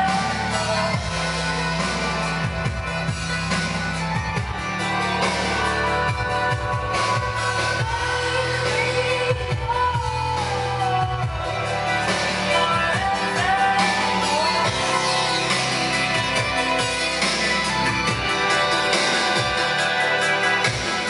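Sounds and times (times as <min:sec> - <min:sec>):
song through computer speakers: 0:00.0 - 0:21.0.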